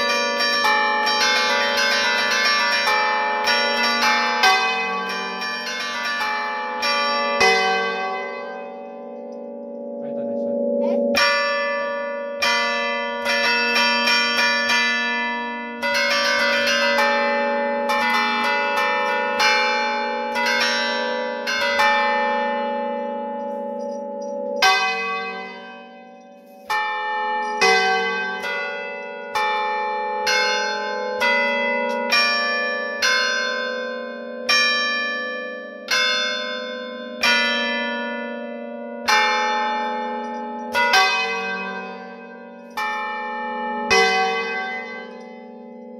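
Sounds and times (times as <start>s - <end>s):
church bells playing a tune: 0.0s - 45.9s.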